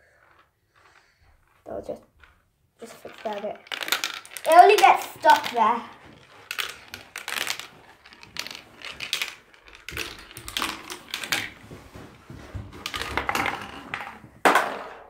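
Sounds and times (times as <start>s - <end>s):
marble clicking and rattling: 0.0s - 14.8s.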